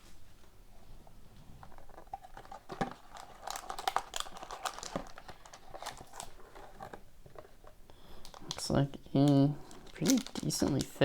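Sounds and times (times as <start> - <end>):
card packaging crinkling: 1.6 - 11.0.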